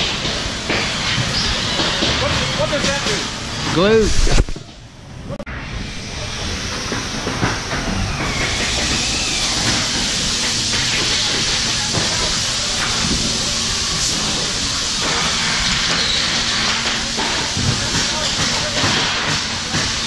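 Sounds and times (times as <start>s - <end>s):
loud steady hiss: 0.0s - 20.0s.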